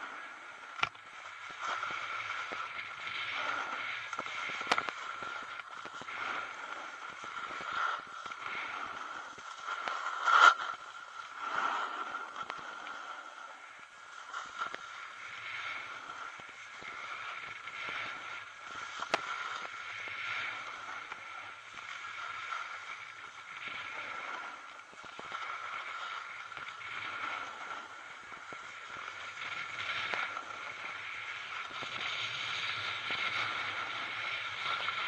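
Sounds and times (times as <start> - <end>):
snowboard scraping on snow: 1.2 - 35.0.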